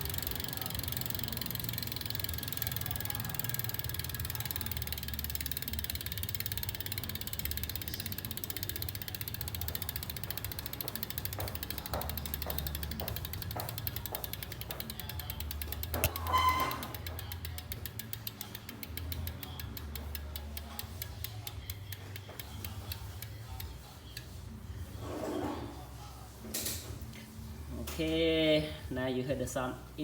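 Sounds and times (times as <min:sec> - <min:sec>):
bicycle hub ratchet buzzing: 0:00.0 - 0:25.1.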